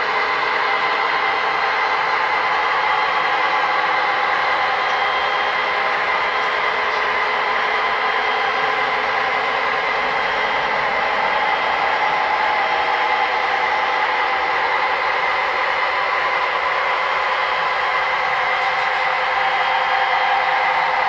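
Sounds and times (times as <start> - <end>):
model train wheels rumbling on track: 0.0 - 21.0.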